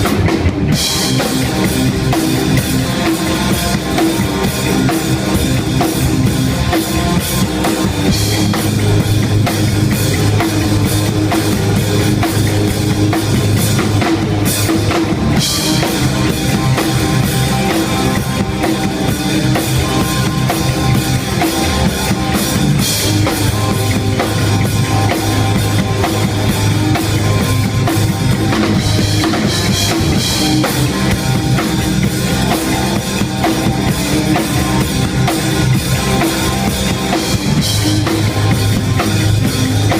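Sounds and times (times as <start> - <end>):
hardcore band playing: 0.0 - 39.9
loud drum kit: 0.0 - 39.9.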